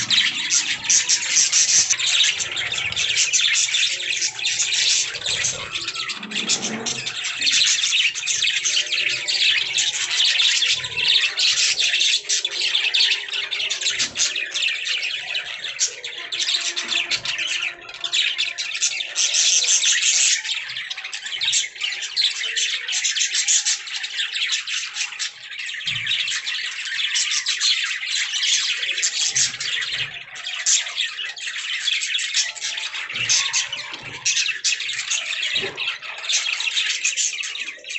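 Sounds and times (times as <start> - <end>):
budgerigars chattering and warbling: 0.0 - 37.9.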